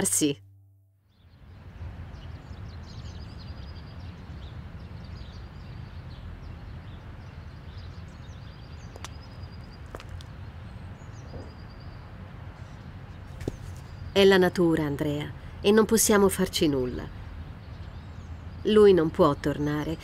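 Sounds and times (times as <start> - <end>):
small birds chirping: 1.1 - 20.0
wind rumbling: 1.2 - 20.0.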